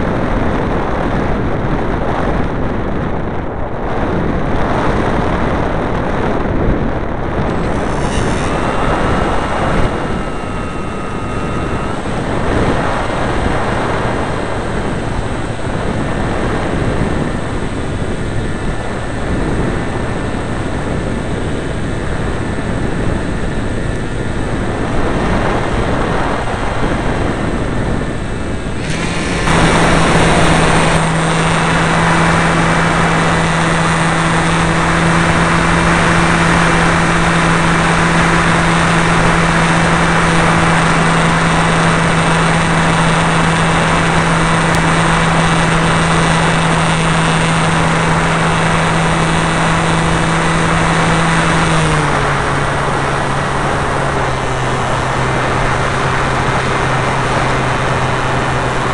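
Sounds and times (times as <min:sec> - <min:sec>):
model plane motor drone: 0:00.0 - 0:58.9
wind rushing: 0:00.0 - 0:58.9.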